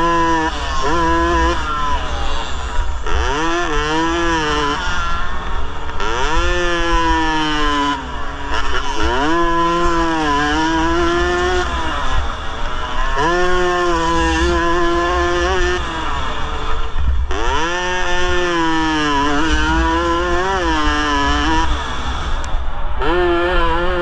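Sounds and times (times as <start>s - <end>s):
two-stroke motorcycle engine revving: 0.0s - 24.0s.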